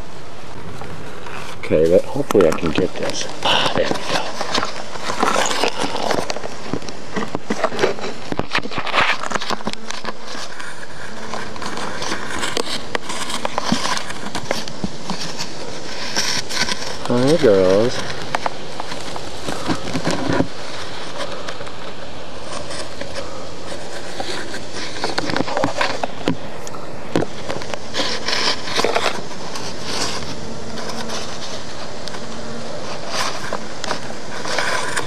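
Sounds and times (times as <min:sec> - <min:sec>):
bees buzzing: 0:00.0 - 0:35.0.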